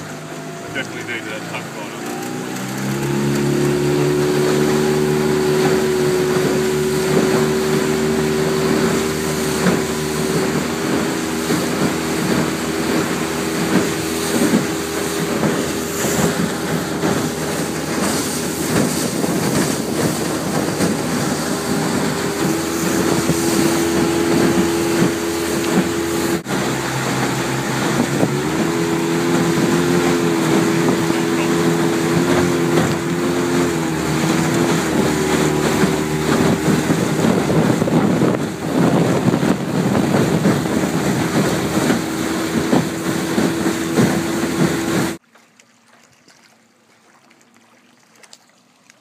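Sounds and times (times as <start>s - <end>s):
outboard motor running: 0.0s - 49.0s
rushing water: 0.0s - 49.0s
wind noise: 2.8s - 45.2s.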